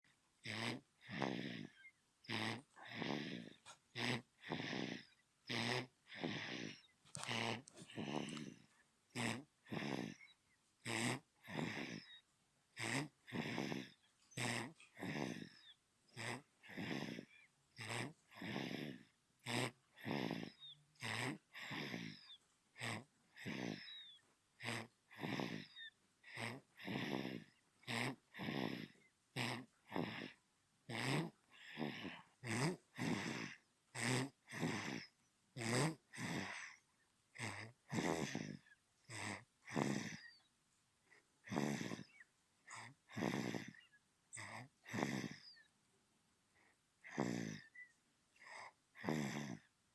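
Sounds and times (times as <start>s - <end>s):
baby snoring: 0.4s - 40.5s, 41.4s - 45.7s, 47.0s - 49.7s.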